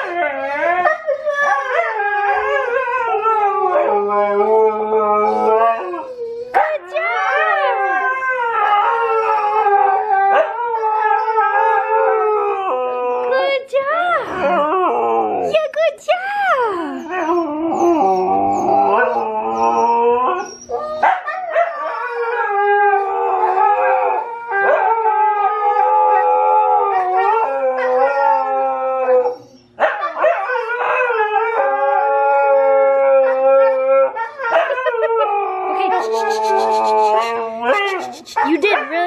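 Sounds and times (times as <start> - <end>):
dog howling: 0.0 - 15.6, 16.8 - 39.0.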